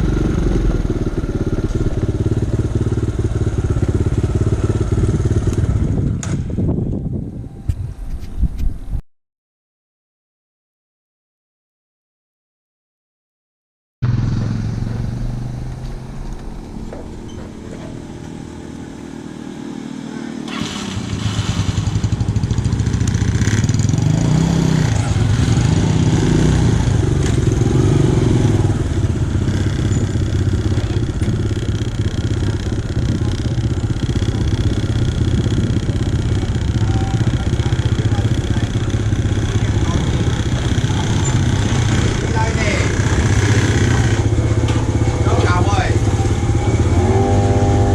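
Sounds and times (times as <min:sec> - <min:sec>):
dirt bike engine running: 0:00.0 - 0:07.0, 0:14.0 - 0:47.9.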